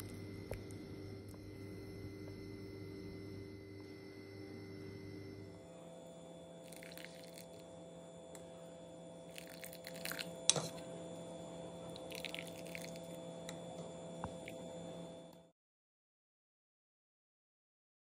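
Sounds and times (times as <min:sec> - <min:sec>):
low hum: 0:00.0 - 0:15.5.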